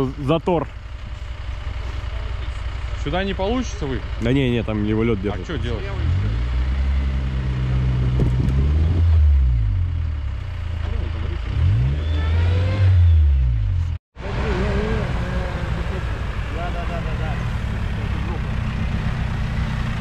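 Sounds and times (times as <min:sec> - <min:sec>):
off-road vehicle engine revving: 0:01.6 - 0:20.0.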